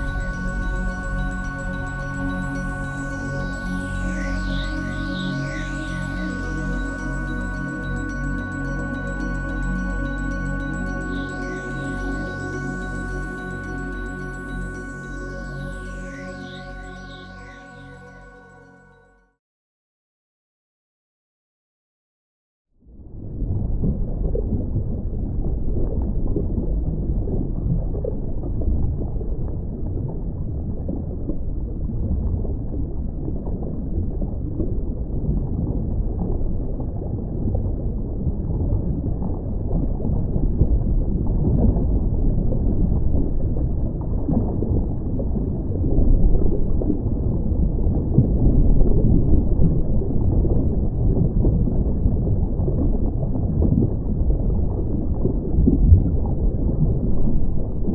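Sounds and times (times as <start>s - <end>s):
muffled underwater rumble: 0.0s - 16.6s, 22.8s - 57.9s.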